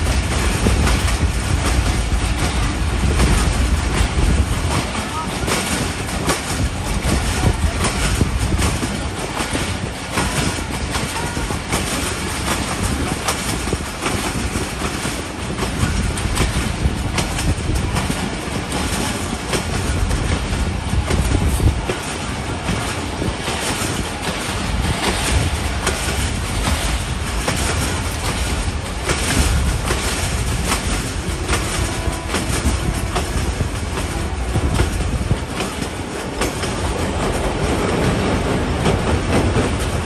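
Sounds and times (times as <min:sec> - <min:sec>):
train coaches rumbling: 0:00.0 - 0:40.0
wheels clicking over rails: 0:00.0 - 0:40.0.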